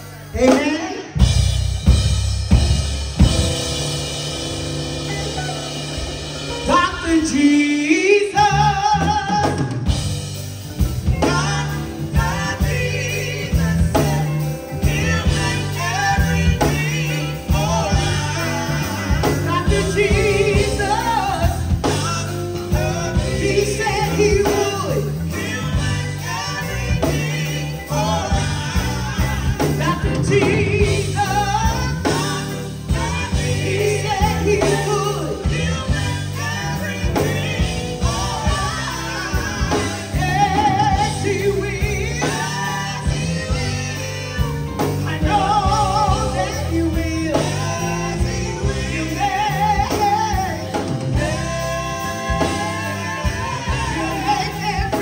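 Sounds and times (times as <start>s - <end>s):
bass guitar line: 0.0s - 55.0s
drums: 0.0s - 55.0s
gospel singers: 0.0s - 55.0s.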